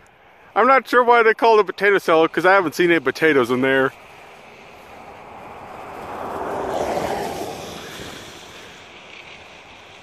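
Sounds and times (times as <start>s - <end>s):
vehicle approaching: 0.2s - 10.0s.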